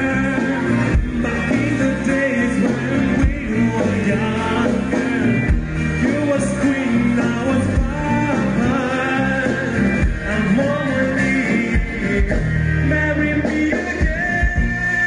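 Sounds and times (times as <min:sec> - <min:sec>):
live band playing: 0:00.0 - 0:15.0
man singing: 0:00.0 - 0:15.0.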